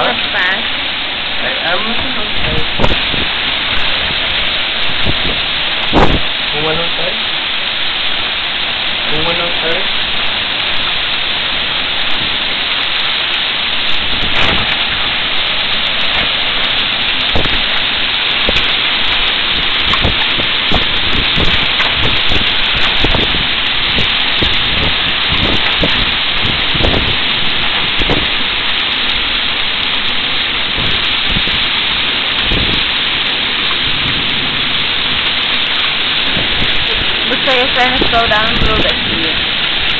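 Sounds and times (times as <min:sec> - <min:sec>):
torrential rain rushing: 0:00.0 - 0:39.9.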